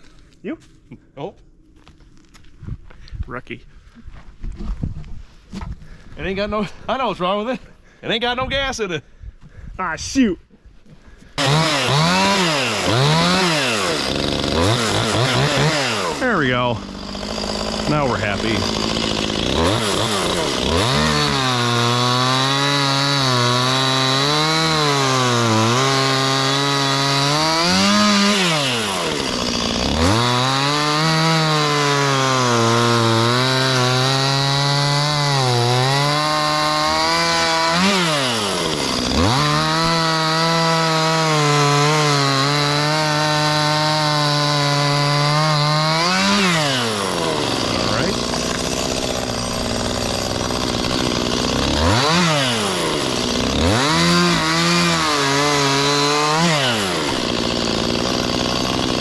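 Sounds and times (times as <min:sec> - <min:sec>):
chainsaw cutting wood: 0:11.4 - 0:59.0.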